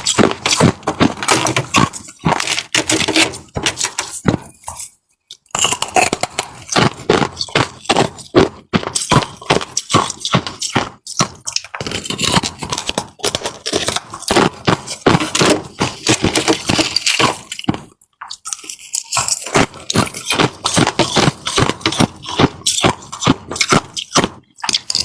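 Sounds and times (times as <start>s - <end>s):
ice crunching being chewed: 0.0s - 25.0s.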